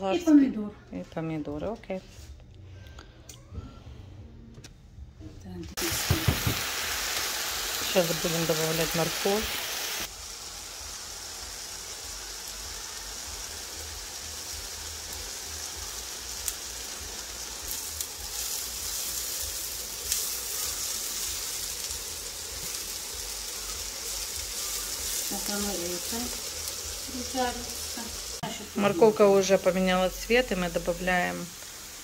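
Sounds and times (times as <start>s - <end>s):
vegetables sizzling in oil: 5.7s - 32.0s.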